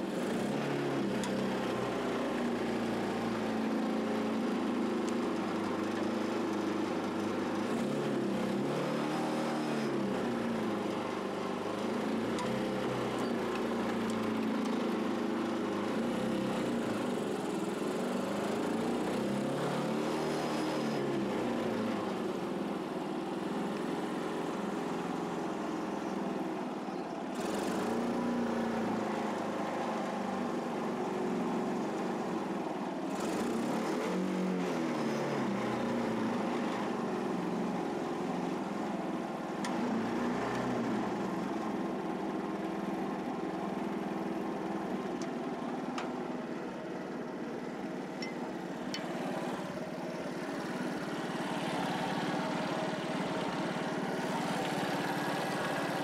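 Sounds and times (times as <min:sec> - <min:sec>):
small tractor engine revving: 0:00.0 - 0:22.8, 0:27.3 - 0:45.0, 0:47.9 - 0:56.0.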